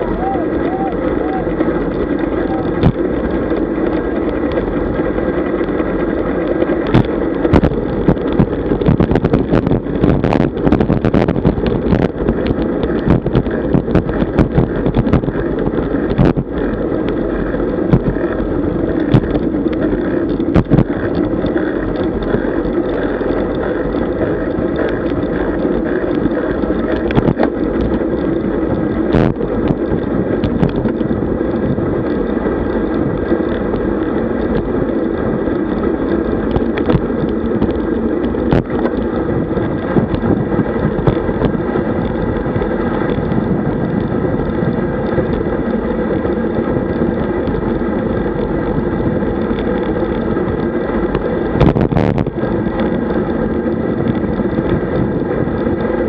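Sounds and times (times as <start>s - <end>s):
tyre and road rumble: 0.0s - 56.0s
wind rushing over microphone: 0.0s - 56.0s
bike clicks and knocks: 1.4s - 56.0s.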